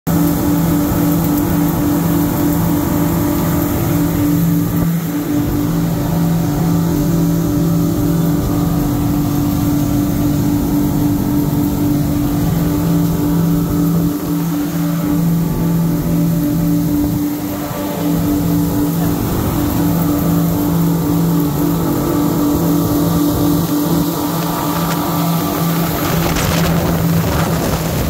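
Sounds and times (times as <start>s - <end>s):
boat engines droning: 0.1s - 28.0s.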